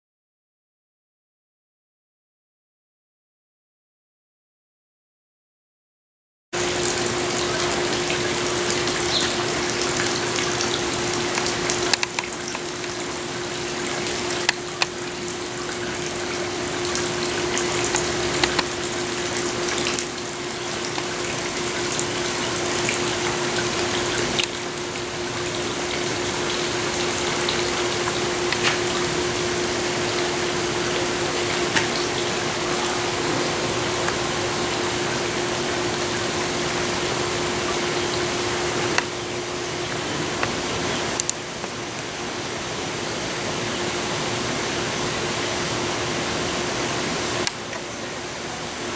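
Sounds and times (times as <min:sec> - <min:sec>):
steady hum: 0:06.6 - 0:48.9
stream water rushing: 0:06.6 - 0:48.9.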